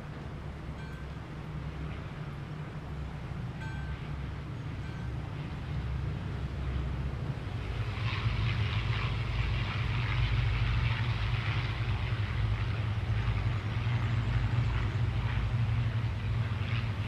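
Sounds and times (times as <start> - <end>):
low machine rumble: 0.0 - 17.0.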